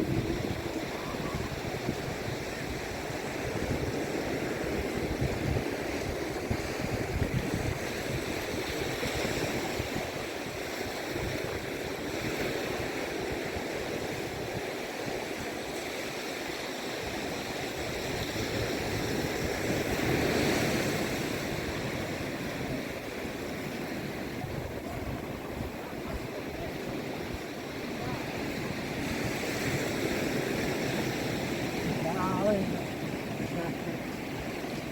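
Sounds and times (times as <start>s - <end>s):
ocean surf breaking: 0.0s - 34.9s
wind buffeting microphone: 0.0s - 34.9s.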